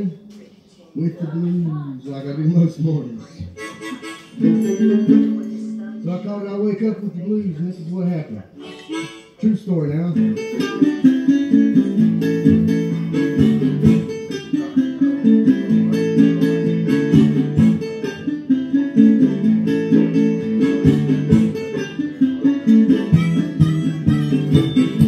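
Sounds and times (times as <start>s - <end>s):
plucked acoustic guitar music: 3.5s - 7.5s, 8.6s - 25.0s.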